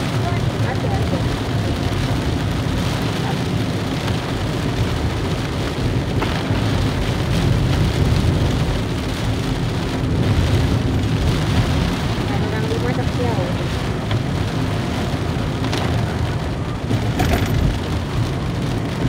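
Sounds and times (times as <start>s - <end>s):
car driving on wet road: 0.0s - 19.0s
heavy rain on car roof: 0.0s - 19.0s.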